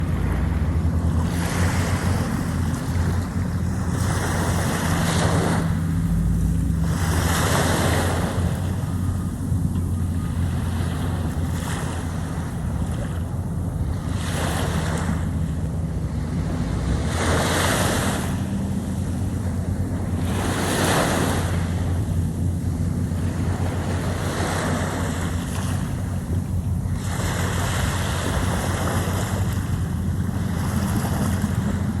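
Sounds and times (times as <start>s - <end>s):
waves washing in: 0.0s - 32.0s
wind rumble on microphone: 0.0s - 32.0s.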